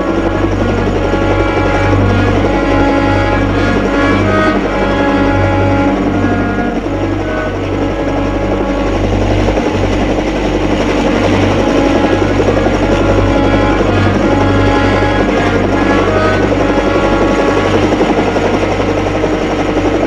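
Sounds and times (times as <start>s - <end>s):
faint orchestral music: 0.0s - 20.0s
helicopter engine and rotor: 0.0s - 20.0s.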